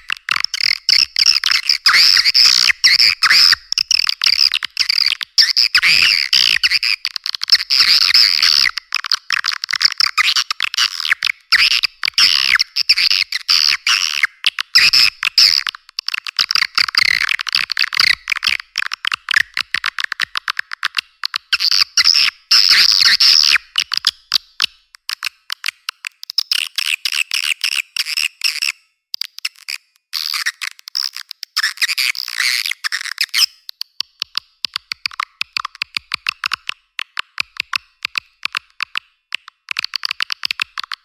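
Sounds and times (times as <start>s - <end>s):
recorded swiftlet clicks and chirps: 0.0s - 41.0s.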